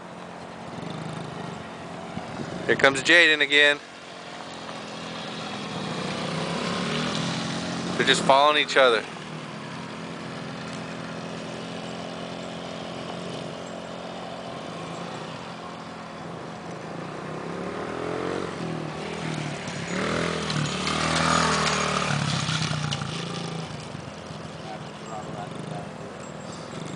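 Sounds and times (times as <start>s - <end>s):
small engines revving: 0.6s - 26.9s.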